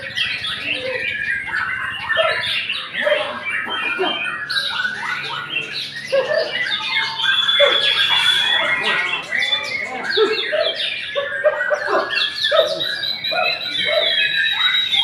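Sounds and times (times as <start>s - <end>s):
other birds calling: 0.0s - 15.0s.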